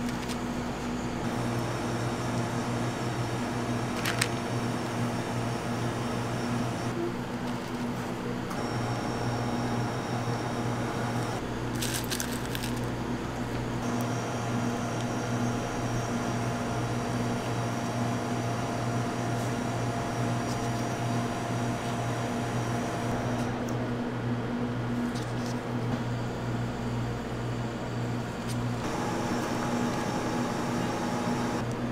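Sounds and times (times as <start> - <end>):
low electrical hum: 0.0 - 31.9.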